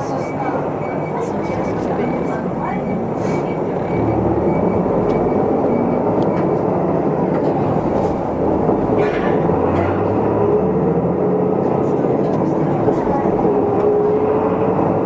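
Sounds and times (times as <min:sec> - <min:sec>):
bus diesel engine: 0:00.0 - 0:15.0
road noise: 0:00.0 - 0:15.0.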